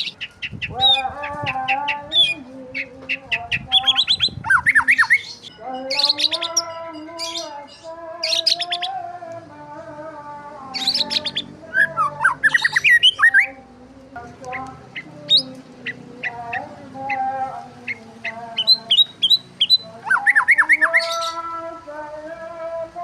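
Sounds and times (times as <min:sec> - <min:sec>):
birds chirping: 0:00.0 - 0:09.9, 0:10.5 - 0:22.2.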